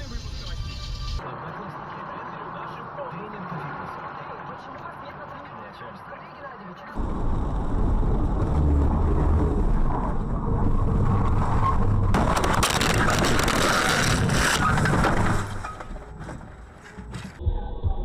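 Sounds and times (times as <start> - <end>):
car engine and road noise: 0.0 - 17.4.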